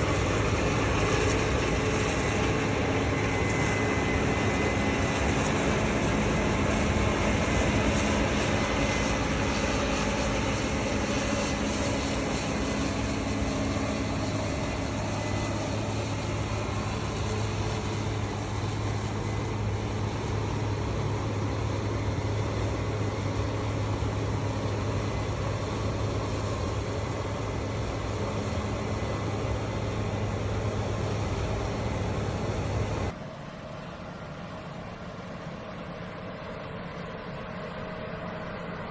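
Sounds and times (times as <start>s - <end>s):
diesel engine hum: 0.0s - 38.9s.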